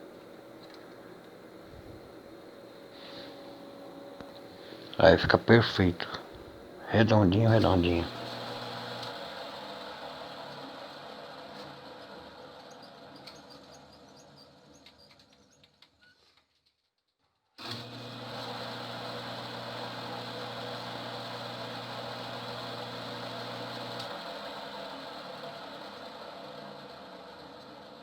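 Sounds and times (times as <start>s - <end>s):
lathe running: 0.1s - 14.4s, 17.6s - 28.0s.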